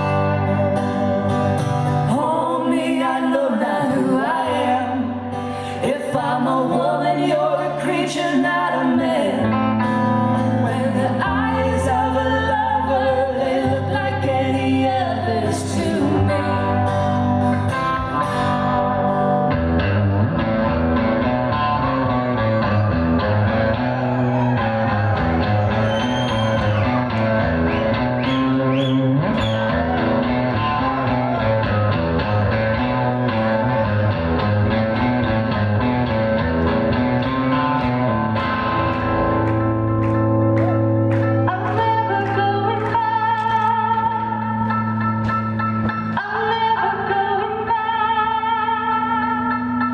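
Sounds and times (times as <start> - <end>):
guitars and bass: 0.0 - 49.9.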